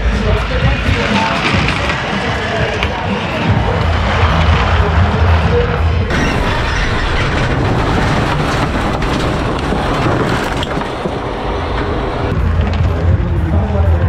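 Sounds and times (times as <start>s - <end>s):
bass-heavy music: 0.0s - 14.0s
rallycross cars racing: 0.0s - 14.0s.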